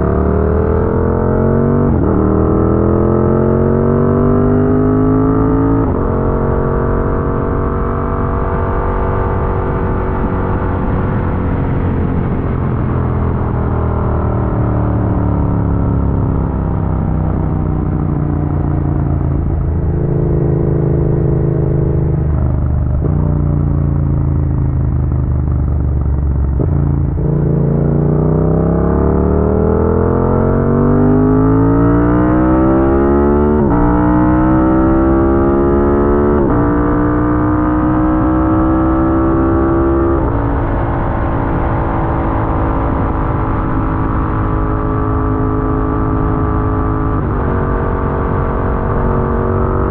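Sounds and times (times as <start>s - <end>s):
motorcycle engine revving: 0.0s - 49.9s
wind and road rumble: 0.0s - 49.9s.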